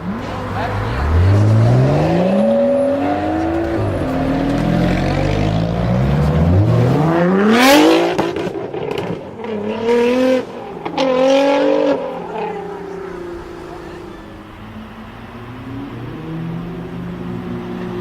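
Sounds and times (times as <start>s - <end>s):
car engine accelerating hard: 0.0s - 18.0s
engine throttle blips: 0.0s - 18.0s.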